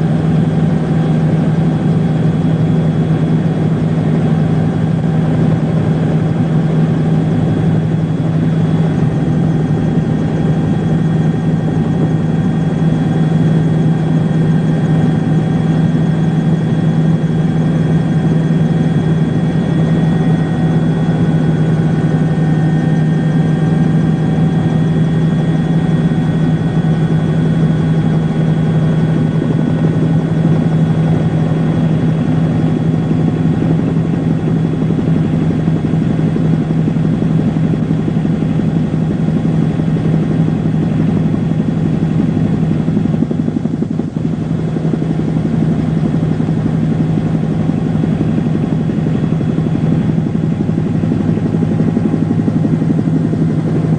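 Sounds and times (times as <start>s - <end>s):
engine drone: 0.0s - 53.9s.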